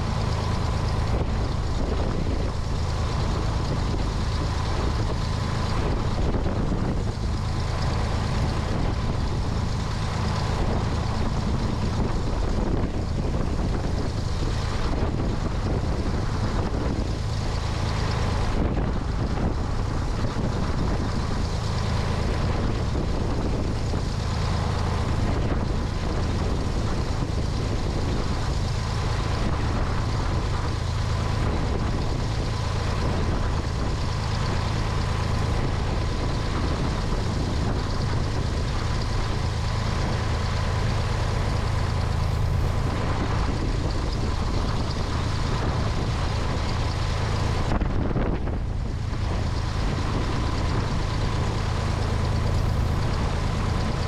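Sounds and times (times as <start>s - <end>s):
aircraft propeller engine running: 0.0s - 54.0s
wind rushing over microphone: 0.0s - 54.0s.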